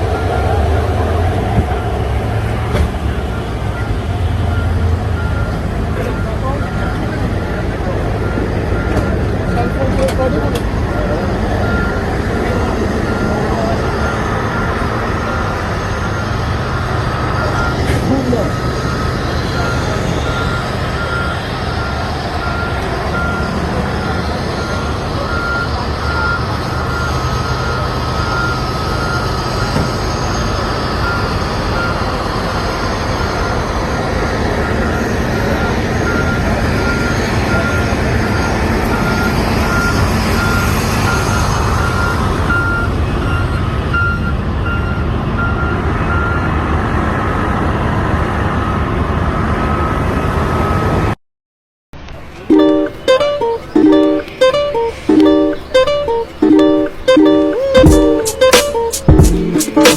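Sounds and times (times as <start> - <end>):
truck reversing alarm beeping: 0.0 - 46.7, 49.6 - 51.1, 52.4 - 59.9
engine rumble: 0.0 - 51.1
street noise: 0.0 - 51.2, 52.0 - 59.9.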